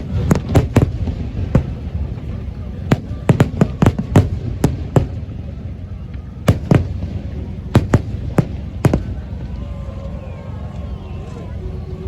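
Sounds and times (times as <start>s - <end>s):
fireworks bangs: 0.0s - 9.7s
low rumble: 0.0s - 12.0s.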